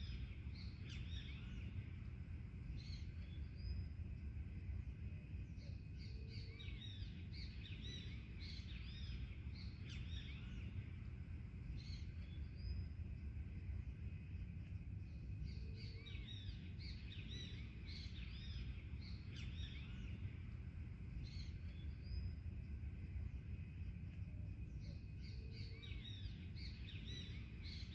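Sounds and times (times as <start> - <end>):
songbirds chirping: 0.0 - 27.9
steady low rumble: 0.0 - 27.9.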